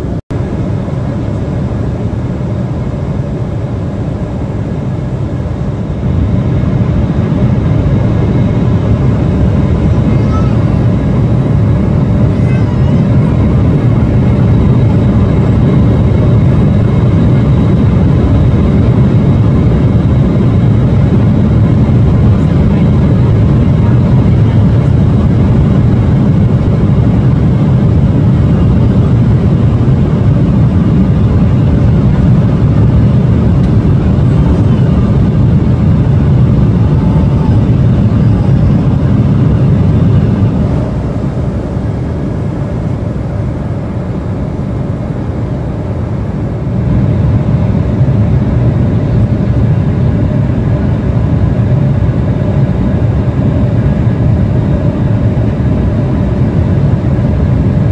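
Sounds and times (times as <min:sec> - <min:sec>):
airliner cabin engine roar: 0:00.0 - 0:57.9.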